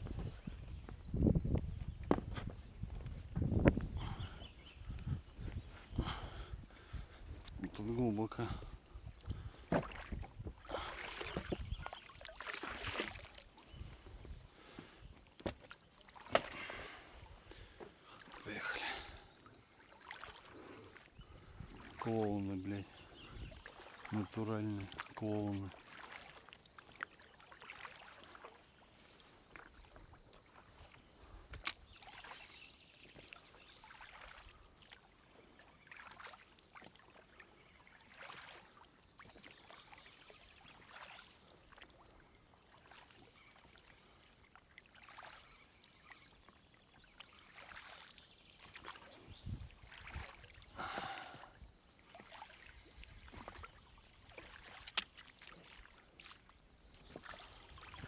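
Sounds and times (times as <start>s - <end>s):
oars splashing in water: 7.6s - 58.0s.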